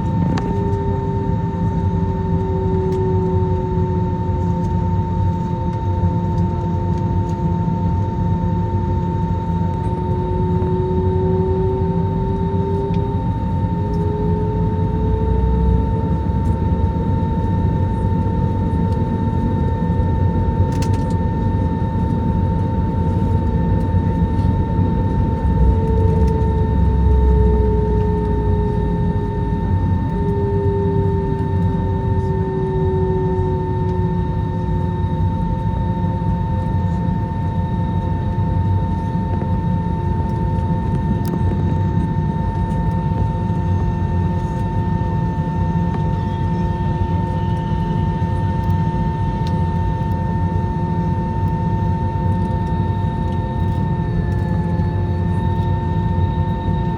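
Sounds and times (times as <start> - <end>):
airliner cabin engine rumble and whine: 0.0 - 56.9.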